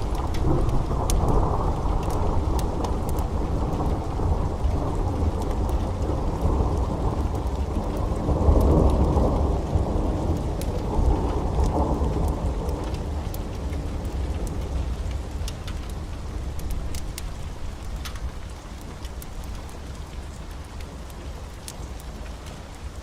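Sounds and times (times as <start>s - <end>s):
thunder rumble: 0.0s - 19.8s
heavy rain pouring: 0.0s - 23.0s.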